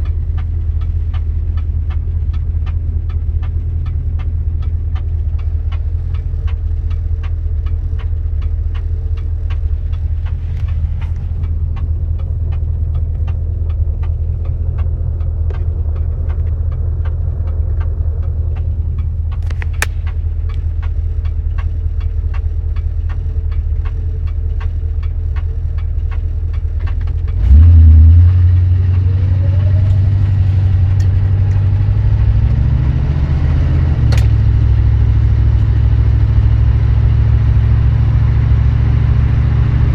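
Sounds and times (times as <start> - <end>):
car engine rumbling: 0.0 - 39.9
engine revving: 0.0 - 39.9
engine ticking: 0.0 - 39.9.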